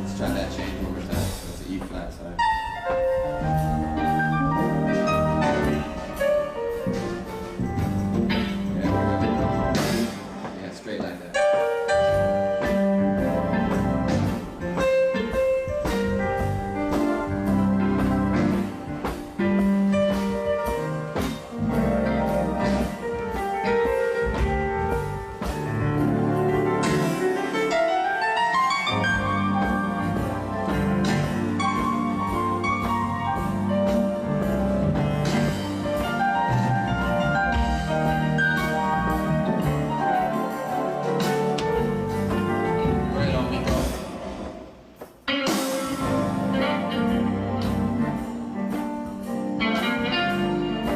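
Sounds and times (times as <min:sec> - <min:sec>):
rising piano run: 0:00.0 - 0:44.9, 0:45.6 - 0:50.9
live band playing: 0:00.0 - 0:50.9.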